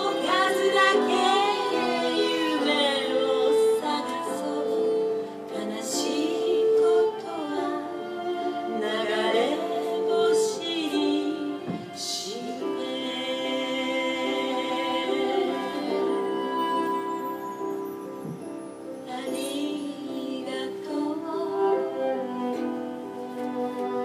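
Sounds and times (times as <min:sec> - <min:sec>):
person singing with vibrato: 0:00.0 - 0:23.1
instrumental accompaniment: 0:00.0 - 0:24.0.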